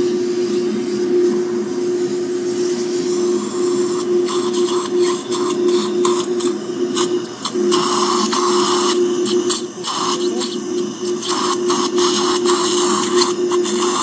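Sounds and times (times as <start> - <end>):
suction aspirator hum and hiss: 0.0 - 14.0.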